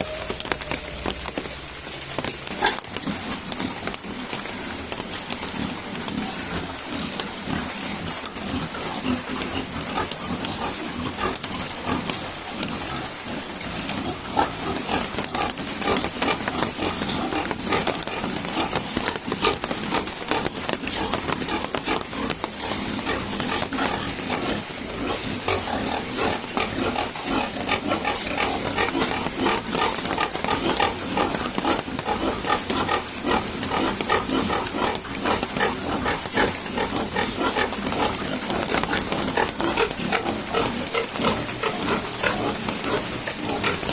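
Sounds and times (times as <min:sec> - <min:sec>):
heavy rain hissing: 0:00.0 - 0:43.9
pigs grunting: 0:02.2 - 0:43.9.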